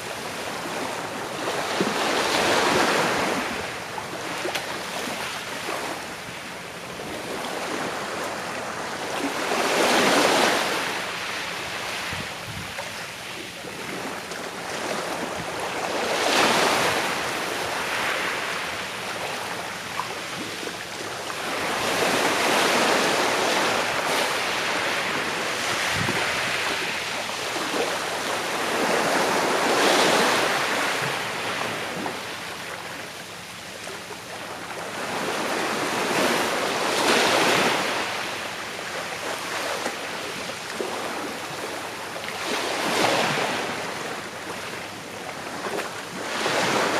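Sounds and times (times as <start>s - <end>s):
sea waves breaking on shore: 0.0s - 46.9s.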